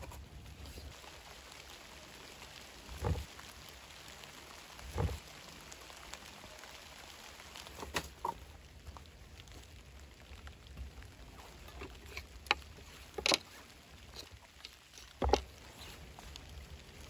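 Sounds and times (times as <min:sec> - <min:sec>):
light rain pattering: 0:00.0 - 0:17.0.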